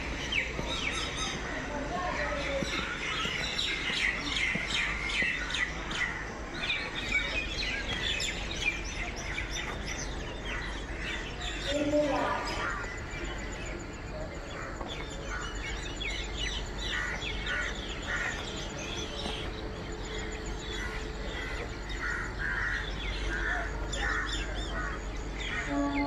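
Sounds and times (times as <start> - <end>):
birds chirping: 0.0 - 26.0
steady low hum: 0.0 - 26.0.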